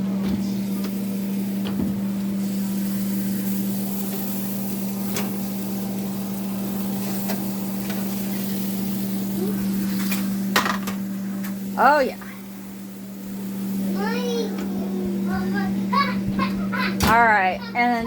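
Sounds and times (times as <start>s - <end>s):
appliance motor humming: 0.0s - 18.0s.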